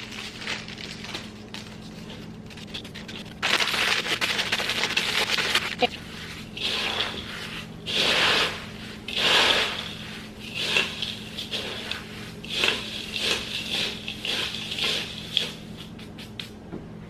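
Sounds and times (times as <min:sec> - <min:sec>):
crackers being crushed: 0:00.0 - 0:16.0.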